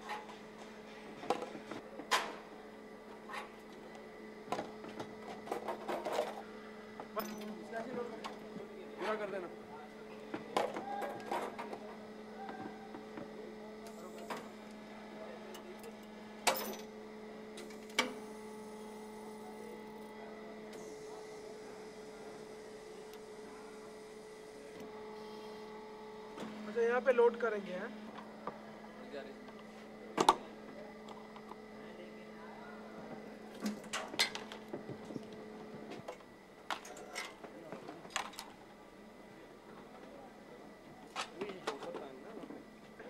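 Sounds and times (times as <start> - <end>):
factory machinery hum: 0.0 - 43.0.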